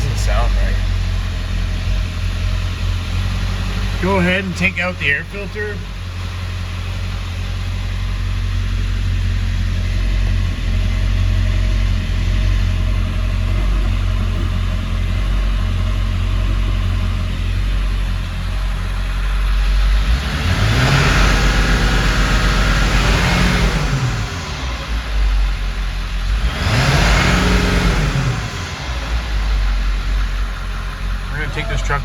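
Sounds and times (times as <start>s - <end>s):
turbo and intake whoosh: 0.0s - 9.4s, 12.5s - 32.0s
diesel engine idling and revving: 0.0s - 32.0s.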